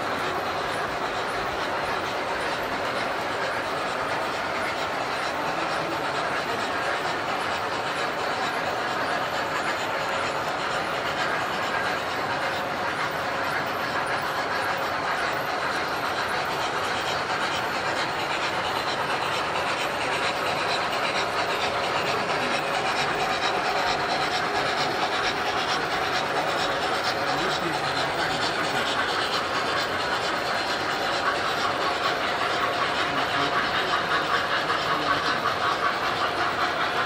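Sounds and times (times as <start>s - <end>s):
model trains rumbling on metal track: 0.0s - 37.0s.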